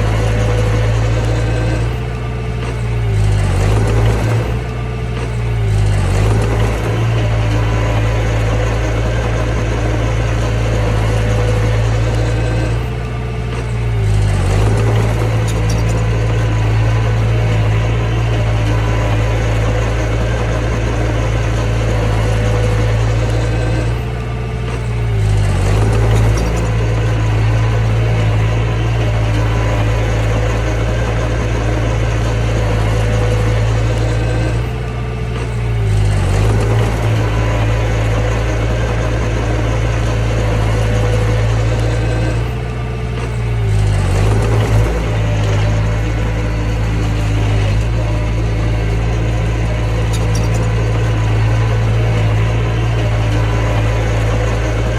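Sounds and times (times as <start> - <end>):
bulldozer diesel engine: 0.0 - 54.9.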